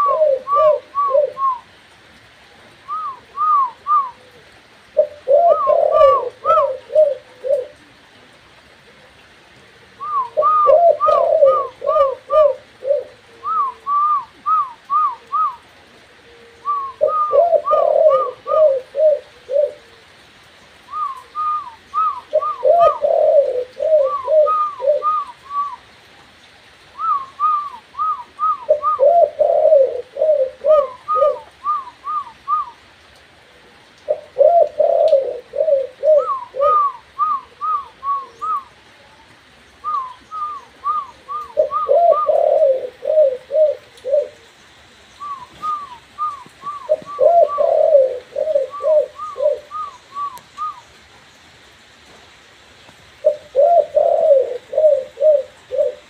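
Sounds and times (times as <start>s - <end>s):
dove cooing: 0.0s - 1.8s, 2.8s - 8.0s, 9.8s - 20.2s, 20.8s - 25.9s, 27.0s - 32.8s, 33.4s - 44.5s, 45.2s - 50.9s, 53.2s - 56.0s.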